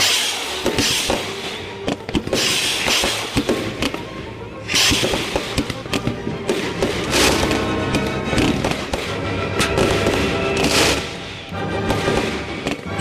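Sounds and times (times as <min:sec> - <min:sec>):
background music: 0:00.0 - 0:13.0
fireworks bangs and crackling: 0:00.0 - 0:13.0.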